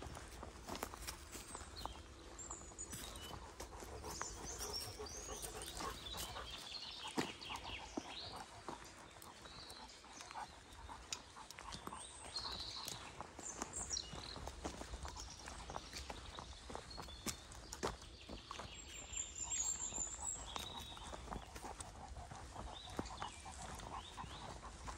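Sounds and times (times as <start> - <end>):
birds singing: 0.0 - 24.9
footsteps on sandy path: 0.0 - 24.9.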